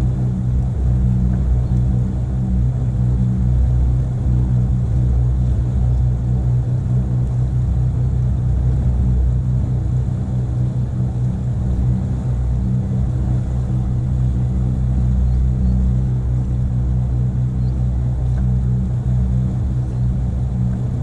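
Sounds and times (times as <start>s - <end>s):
motorboat engine droning: 0.0s - 21.0s.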